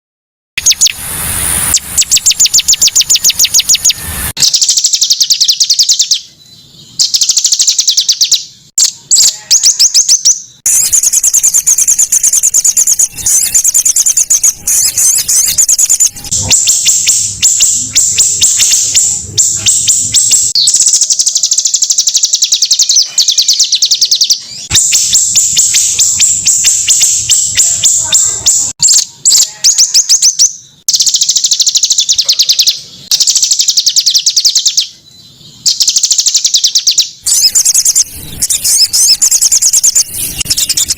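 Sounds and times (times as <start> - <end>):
songbird trilling: 1.7 - 40.9.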